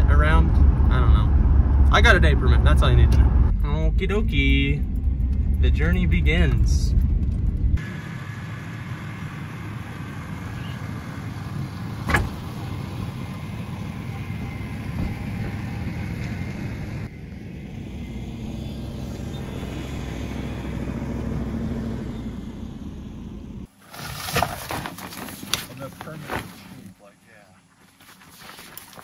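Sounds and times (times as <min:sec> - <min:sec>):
engine and road rumble: 0:00.0 - 0:29.0.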